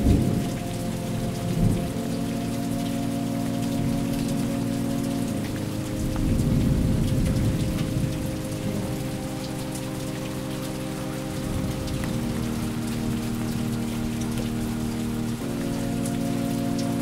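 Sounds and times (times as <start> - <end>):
ambient music tones: 0.0 - 17.0
steady rain falling: 0.0 - 17.0.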